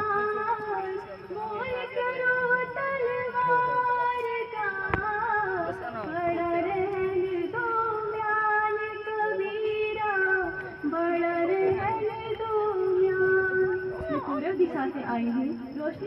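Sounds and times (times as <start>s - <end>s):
woman singing slow melody: 0.0s - 16.0s.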